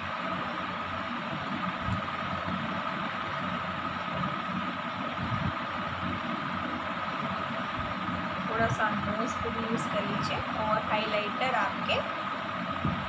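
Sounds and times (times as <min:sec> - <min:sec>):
ceiling fan hum and whine: 0:00.0 - 0:13.0.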